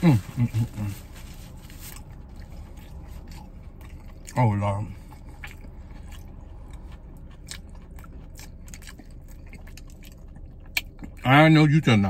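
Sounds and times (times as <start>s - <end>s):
person chewing crunchy food: 0.3s - 11.2s.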